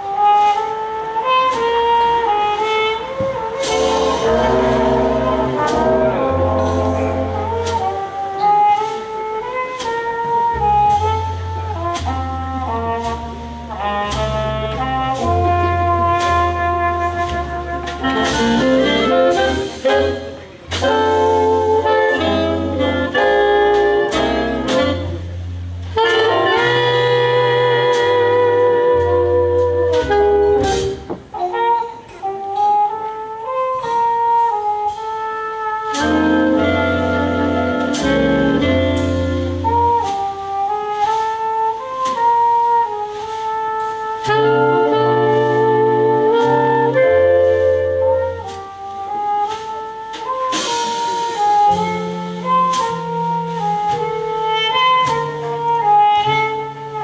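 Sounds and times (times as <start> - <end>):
saxophone and brass chords: 0.0 - 57.0
solo trumpet melody: 0.0 - 57.0
stepping bass notes: 0.0 - 57.0.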